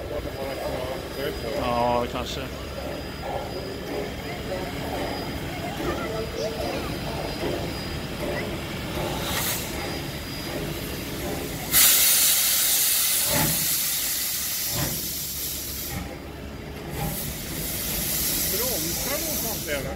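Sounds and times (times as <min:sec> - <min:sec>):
steam hissing: 0:00.0 - 0:19.9
steam locomotive exhaust chuffs: 0:00.0 - 0:19.9.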